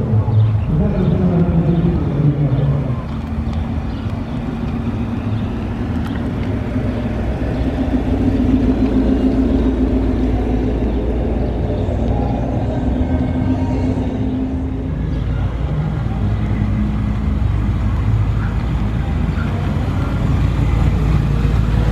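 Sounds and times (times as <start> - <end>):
car engine driving off: 0.0 - 21.9.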